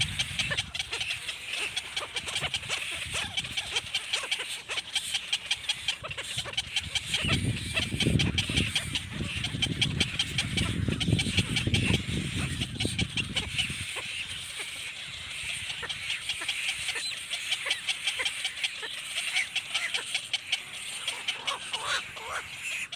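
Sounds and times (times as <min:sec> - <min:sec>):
baby bird cheeping: 0:00.0 - 0:22.9.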